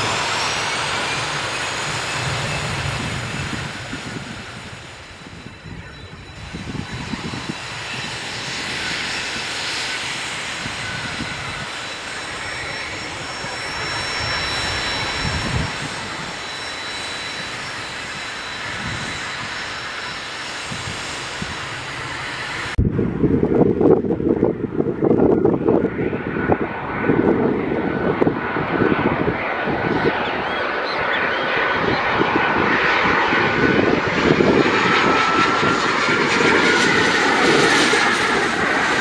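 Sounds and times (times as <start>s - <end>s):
jet engines rushing with whine: 0.0s - 39.0s.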